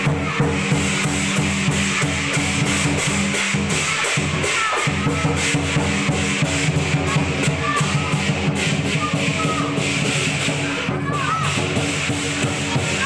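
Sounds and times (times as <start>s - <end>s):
big drum beating: 0.0s - 13.0s
crashing cymbals: 0.0s - 13.0s.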